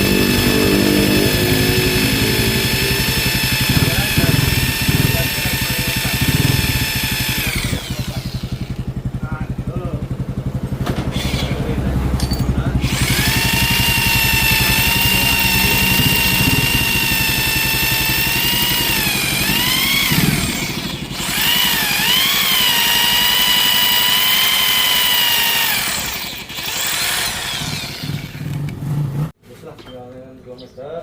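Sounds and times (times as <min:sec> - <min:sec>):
electric hand drill whining: 0:00.0 - 0:09.0, 0:11.1 - 0:11.7, 0:12.8 - 0:28.7.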